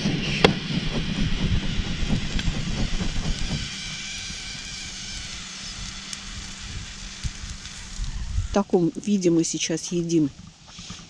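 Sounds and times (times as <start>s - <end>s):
wind buffeting microphone: 0.0s - 10.6s
faint crackles: 1.4s - 11.0s.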